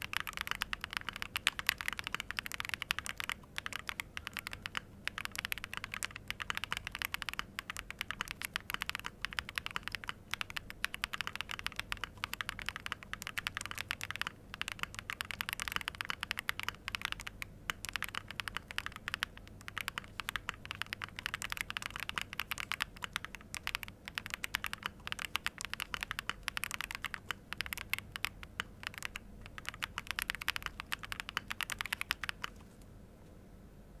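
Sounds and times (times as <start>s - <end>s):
mechanical keyboard typing: 0.0s - 32.7s.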